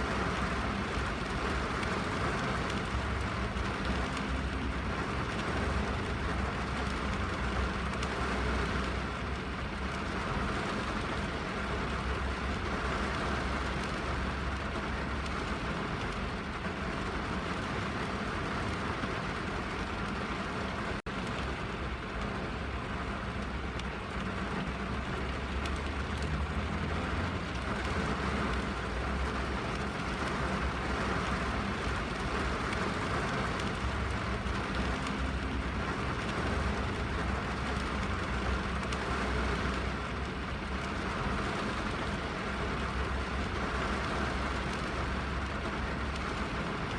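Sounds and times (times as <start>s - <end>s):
rain on a car: 0.0s - 46.9s.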